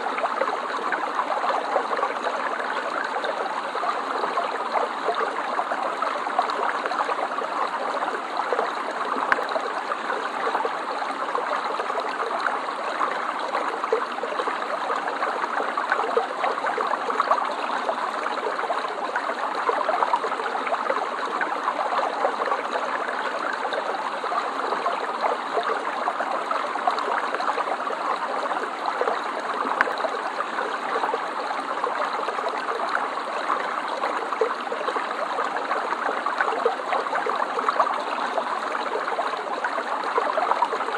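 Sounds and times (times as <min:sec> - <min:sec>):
stream flowing over stones: 0:00.0 - 0:40.9.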